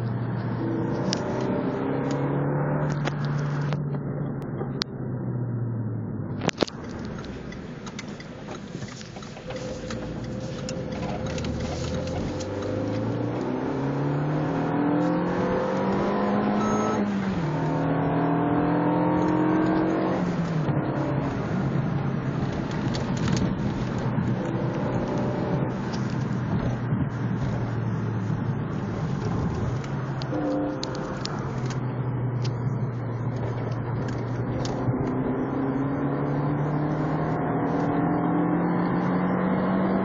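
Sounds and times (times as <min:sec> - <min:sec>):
car engine from inside cabin: 0:00.0 - 0:40.0.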